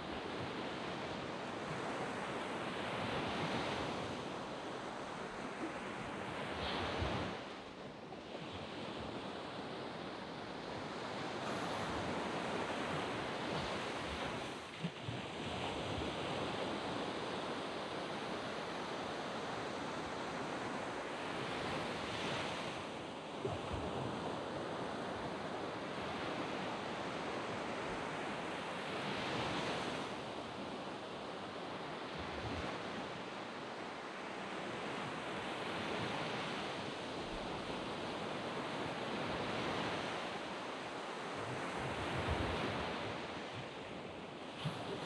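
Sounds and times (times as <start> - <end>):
waves washing onto beach: 0.0 - 45.0.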